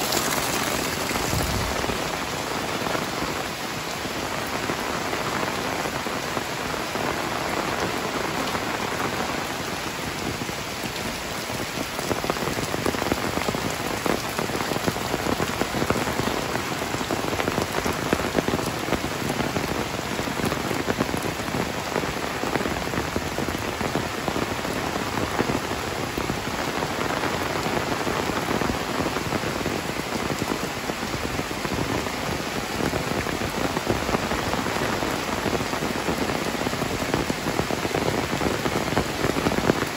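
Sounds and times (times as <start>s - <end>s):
heavy rain pouring on concrete: 0.0s - 39.9s.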